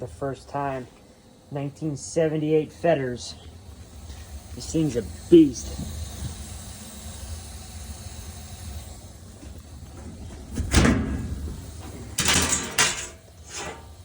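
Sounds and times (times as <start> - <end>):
furnace humming: 0.0 - 14.0.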